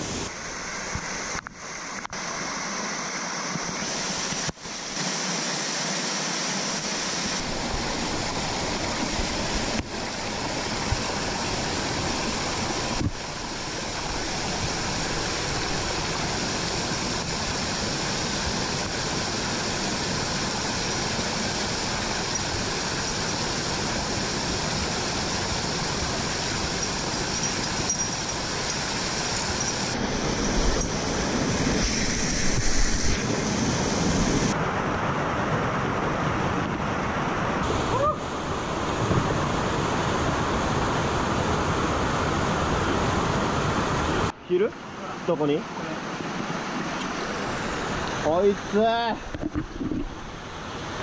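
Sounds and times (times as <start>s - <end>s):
mountain stream rushing: 0.0s - 51.0s.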